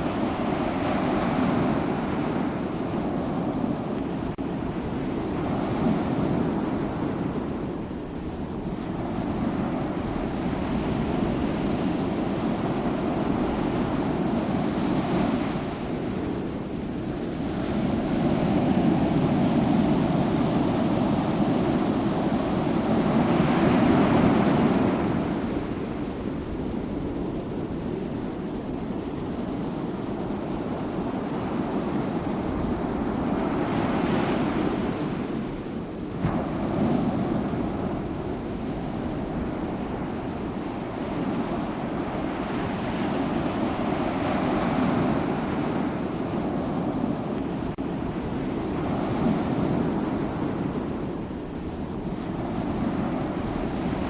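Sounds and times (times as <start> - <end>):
sea waves washing in: 0.0 - 54.0.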